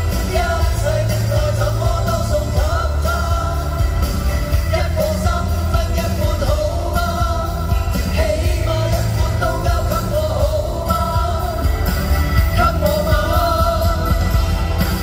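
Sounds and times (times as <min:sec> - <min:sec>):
pop band music over sound system: 0:00.0 - 0:15.0.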